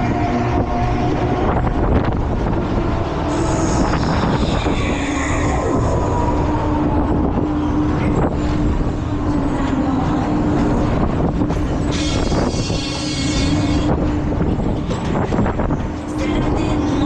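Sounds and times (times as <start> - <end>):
thrill ride mechanical rumble: 0.0 - 17.0
wind buffeting microphone: 0.0 - 17.0.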